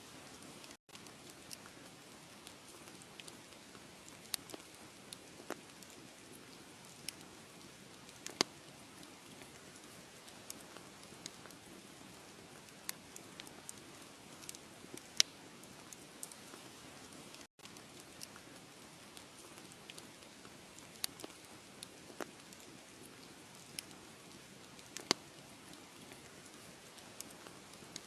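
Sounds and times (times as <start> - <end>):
wood fire crackling: 0.1 - 28.0.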